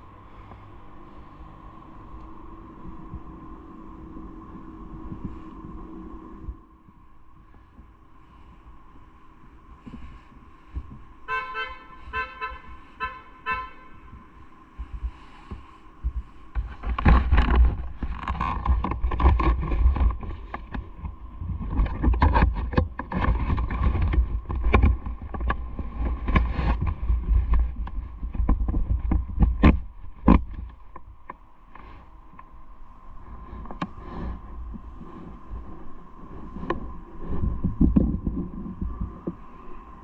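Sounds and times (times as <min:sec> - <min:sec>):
wind buffeting camera: 0:00.0 - 0:40.0.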